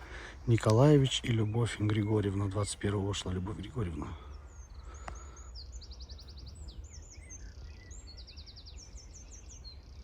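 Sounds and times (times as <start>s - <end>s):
small birds chirping and trilling: 0.0s - 10.0s.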